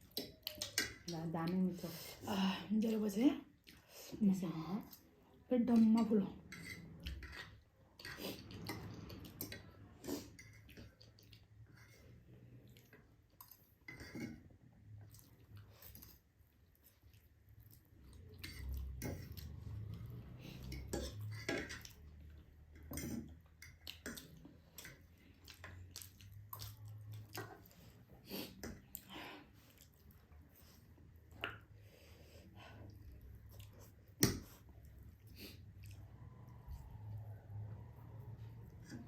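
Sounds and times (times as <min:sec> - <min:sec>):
chewing noodles: 0:06.5 - 0:14.2, 0:14.8 - 0:39.0.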